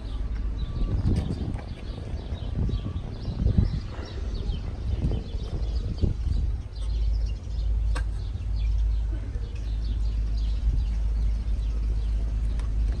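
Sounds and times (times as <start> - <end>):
birds chirping: 0.0 - 13.0
car engine idling: 0.0 - 13.0.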